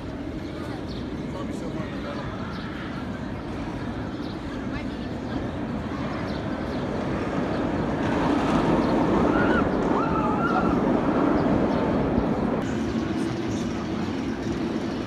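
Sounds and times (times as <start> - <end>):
roller coaster train roaring: 0.0 - 15.0.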